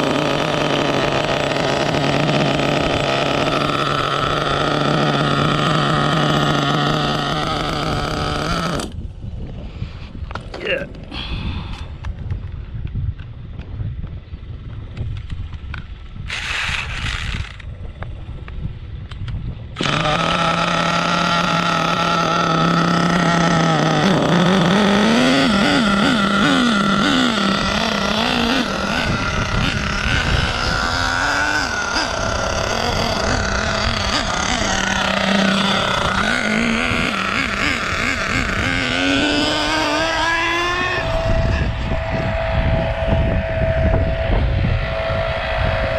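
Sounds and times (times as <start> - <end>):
small nitro engine revving: 0.0 - 9.1, 16.2 - 18.1, 19.7 - 45.9.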